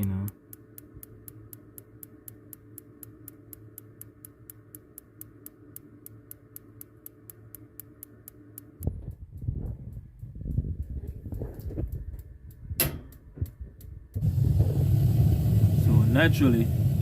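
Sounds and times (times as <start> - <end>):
low steady hum: 0.0 - 17.0
spark igniter ticking: 0.0 - 17.0.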